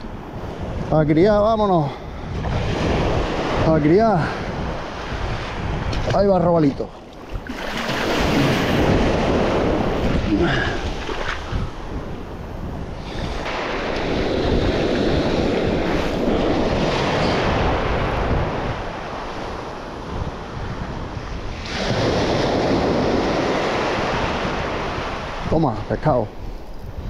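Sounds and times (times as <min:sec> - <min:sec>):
wind buffeting microphone: 0:00.0 - 0:27.0
surf breaking on shore: 0:01.6 - 0:26.2.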